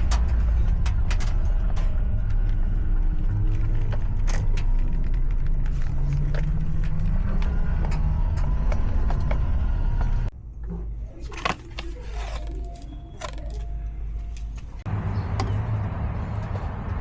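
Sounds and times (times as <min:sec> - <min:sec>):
scattered clicks and knocks: 0:00.0 - 0:15.7
van engine low rumble: 0:00.0 - 0:17.0.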